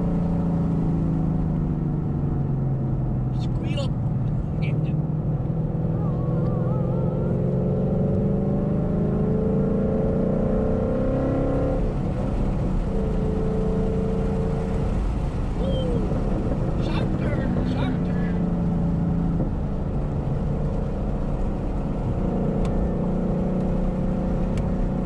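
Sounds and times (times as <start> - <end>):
car engine revving up: 0.0 - 25.0.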